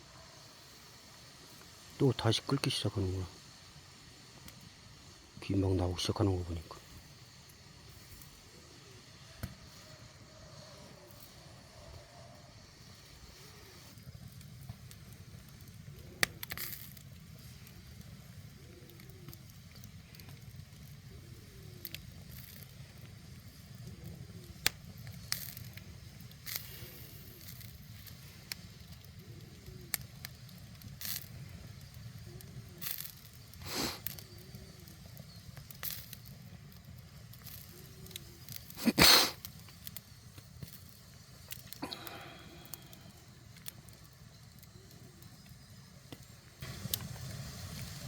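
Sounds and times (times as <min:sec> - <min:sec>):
low fire rumble: 0:00.0 - 0:48.0
wood fire crackling and popping: 0:00.2 - 0:48.0.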